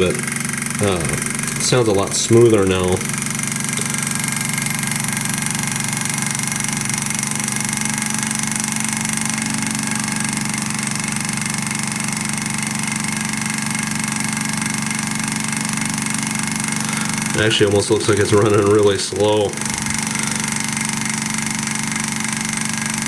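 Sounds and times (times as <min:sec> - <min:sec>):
stirling engine humming: 0:00.0 - 0:23.0.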